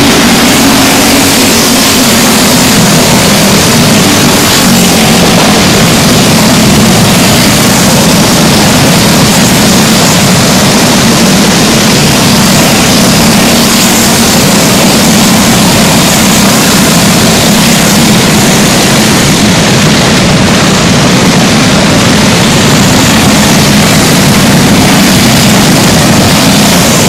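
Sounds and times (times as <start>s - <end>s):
go-kart engines racing: 0.0s - 27.0s.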